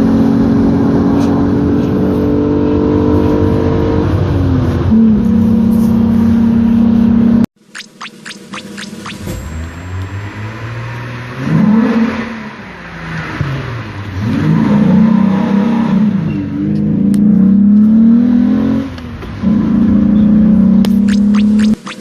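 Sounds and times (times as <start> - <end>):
car engine revving in a tunnel: 0.0 - 7.5, 8.6 - 22.0.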